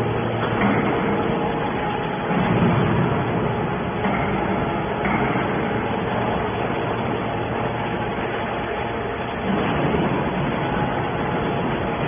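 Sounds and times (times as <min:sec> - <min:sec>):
hydraulic baler droning: 0:00.0 - 0:12.0.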